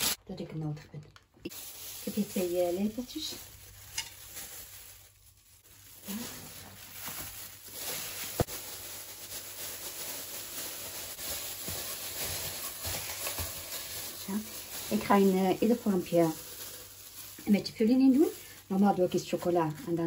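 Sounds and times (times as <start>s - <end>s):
plastic bag crinkling: 0.0s - 0.2s, 1.5s - 20.0s.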